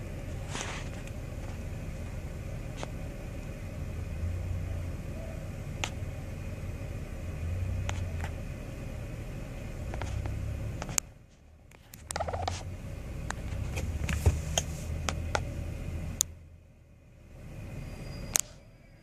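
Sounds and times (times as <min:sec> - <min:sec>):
car engine rumble from inside: 0:00.0 - 0:19.0.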